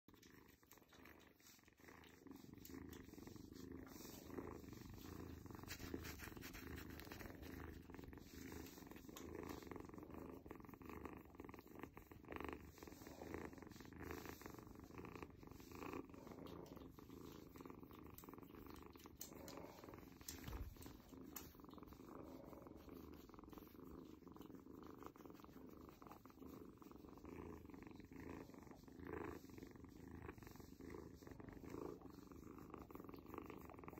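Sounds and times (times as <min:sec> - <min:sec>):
kitten purring: 0:00.0 - 0:33.9.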